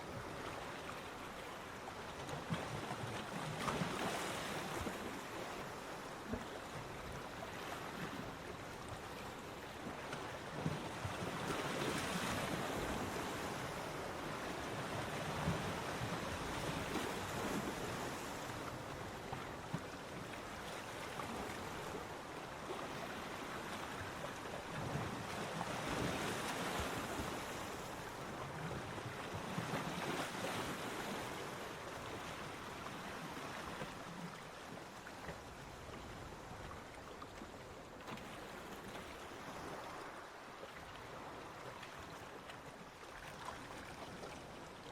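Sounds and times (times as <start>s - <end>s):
ocean waves washing onto beach: 0.0s - 44.9s.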